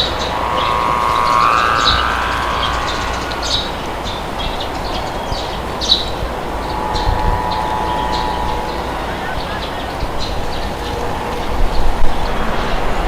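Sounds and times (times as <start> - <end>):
drawn-out whistling tone: 0.0 - 13.0
rushing wind: 0.0 - 13.0.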